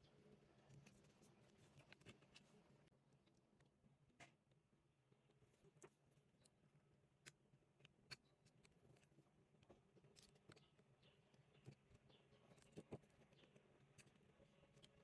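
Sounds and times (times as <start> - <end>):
faint small clicks and taps: 0.6 - 6.6, 7.2 - 15.0.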